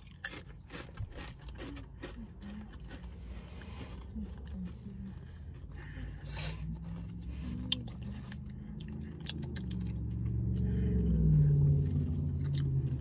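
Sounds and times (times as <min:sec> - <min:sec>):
crisps crunching and chewing: 0:00.0 - 0:13.0
low hum: 0:02.3 - 0:13.0.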